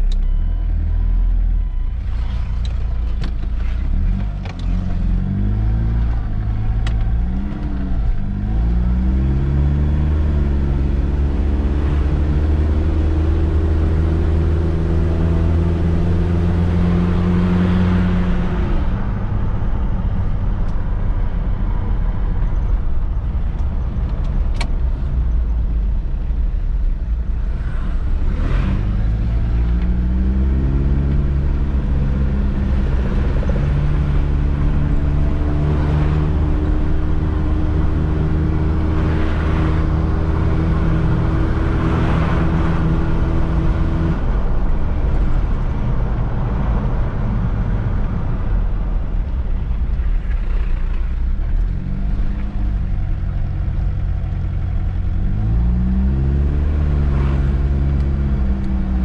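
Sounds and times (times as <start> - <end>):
engine and road rumble inside car: 0.0 - 59.0.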